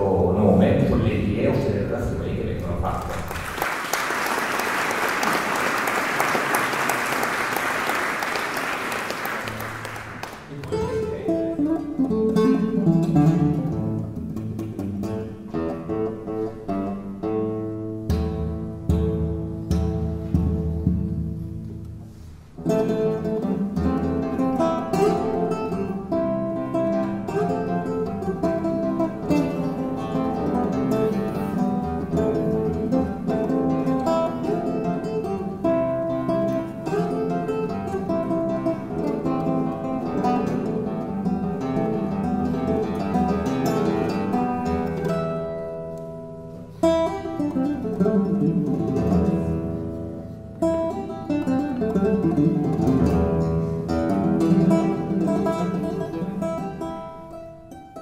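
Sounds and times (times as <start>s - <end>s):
acoustic guitar piece: 0.0s - 58.0s.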